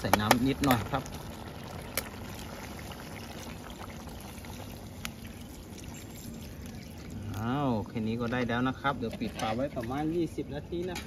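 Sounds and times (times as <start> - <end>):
water pouring into a pot: 0.0 - 10.4.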